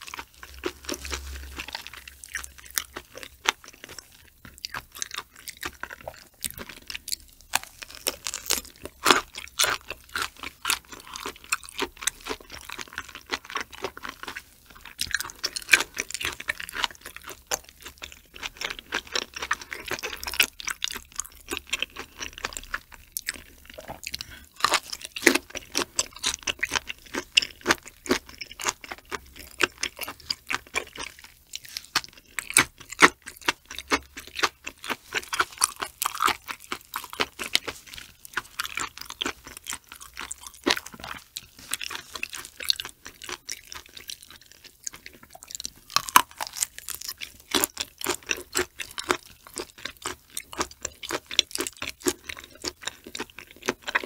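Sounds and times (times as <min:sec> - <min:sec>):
chewing with wet clicks and crunches: 0:00.0 - 0:54.0.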